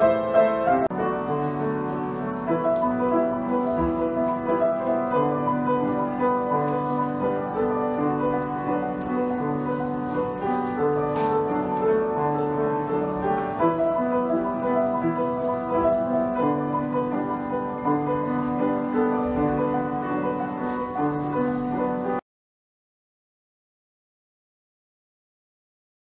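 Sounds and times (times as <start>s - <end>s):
slow solo piano piece: 0.0s - 22.2s.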